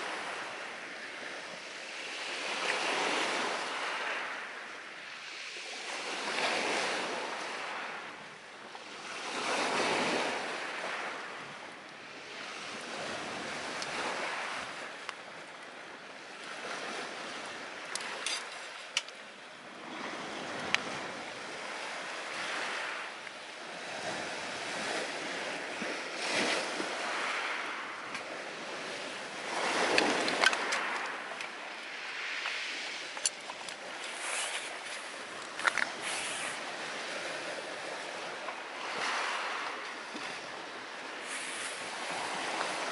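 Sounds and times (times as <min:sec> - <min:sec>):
sea waves washing ashore: 0:00.0 - 0:42.9.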